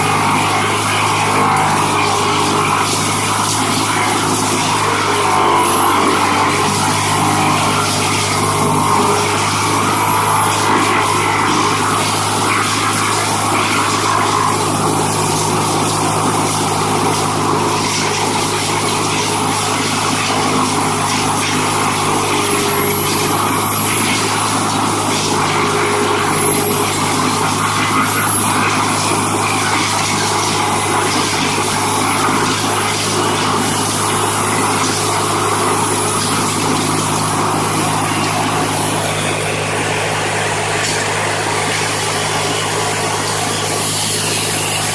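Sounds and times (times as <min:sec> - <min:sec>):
heavy machine engine running: 0:00.0 - 0:44.9.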